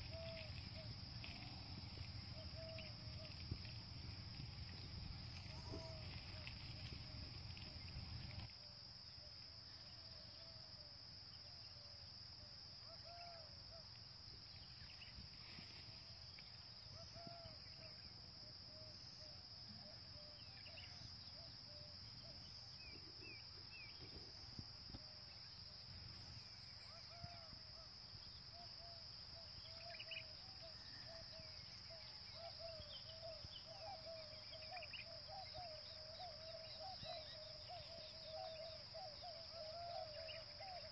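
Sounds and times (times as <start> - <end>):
insect chirping calls: 0.0 - 40.9.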